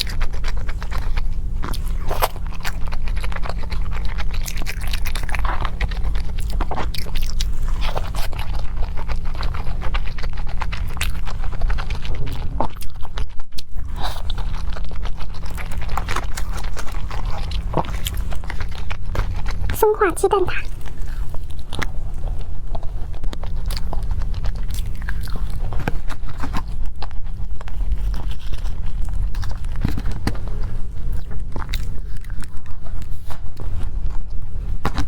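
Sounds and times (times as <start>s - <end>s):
person chewing and biting food: 0.0s - 35.0s
steady low hum: 0.0s - 35.0s.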